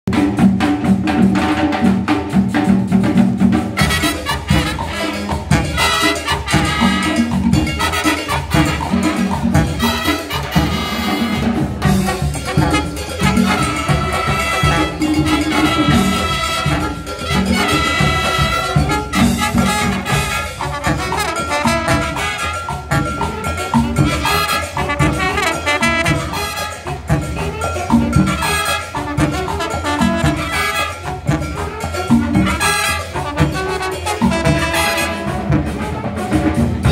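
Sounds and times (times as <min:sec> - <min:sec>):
brass band playing salsa tune: 0:00.1 - 0:36.9
latin drum beat: 0:00.1 - 0:36.9.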